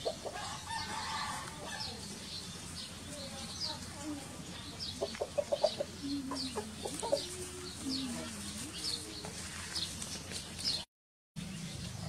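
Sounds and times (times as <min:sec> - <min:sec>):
chickens clucking: 0:00.0 - 0:10.1.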